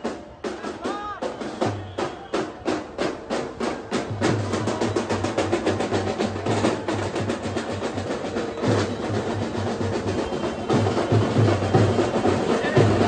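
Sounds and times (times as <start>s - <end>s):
heavy low drum beats: 0.0s - 13.0s
sharp crackling drum strokes: 0.0s - 13.0s.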